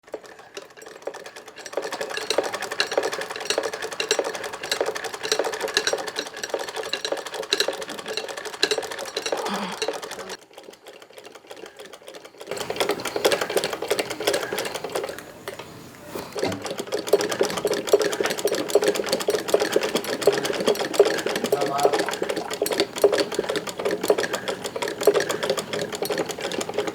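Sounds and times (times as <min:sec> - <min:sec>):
sewing machine clatter: 0:00.0 - 0:26.9.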